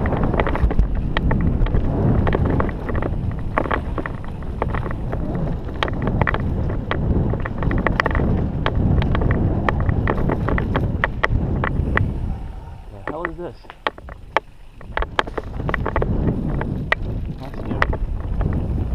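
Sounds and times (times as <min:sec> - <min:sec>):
bike clicks and knocks: 0:00.0 - 0:18.9
tyres rumbling on dirt trail: 0:00.0 - 0:18.9
wind buffeting microphone: 0:00.0 - 0:18.9.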